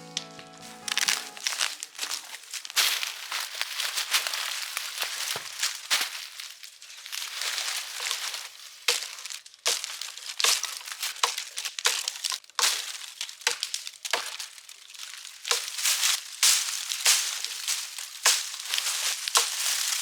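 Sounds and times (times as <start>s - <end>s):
dry debris crunching: 0.0s - 20.0s.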